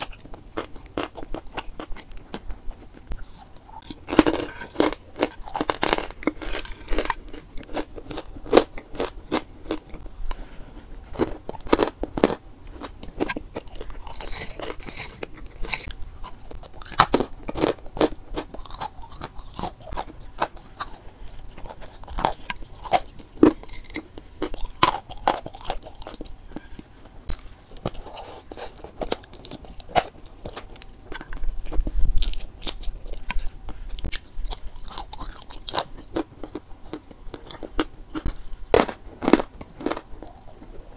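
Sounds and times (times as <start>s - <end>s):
chalk crunching and chewing: 0.0s - 40.9s.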